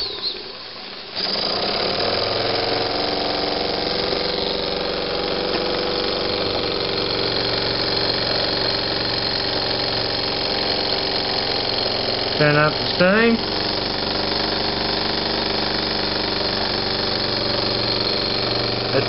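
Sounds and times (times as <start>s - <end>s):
steam engine running: 0.0s - 19.0s.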